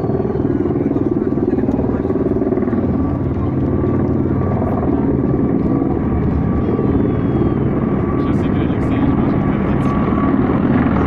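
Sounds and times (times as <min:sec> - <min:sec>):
helicopters flying: 0:00.0 - 0:11.0.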